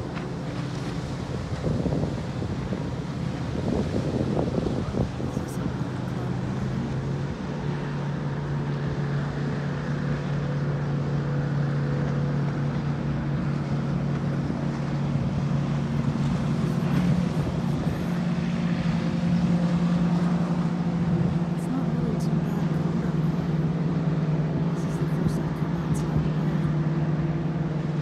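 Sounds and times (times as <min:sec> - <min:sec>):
motorboat engines droning: 0:00.0 - 0:28.0.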